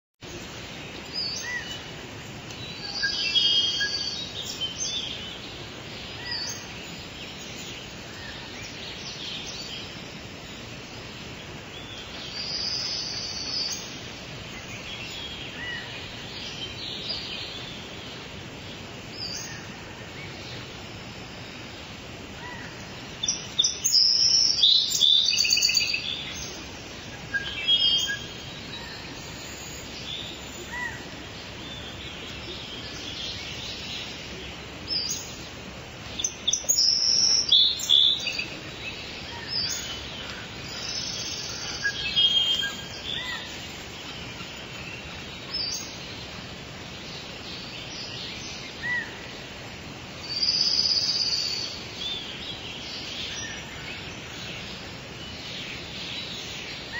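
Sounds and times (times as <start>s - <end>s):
songbirds chirping: 0.2s - 56.9s
steady outdoor hiss: 0.2s - 56.9s.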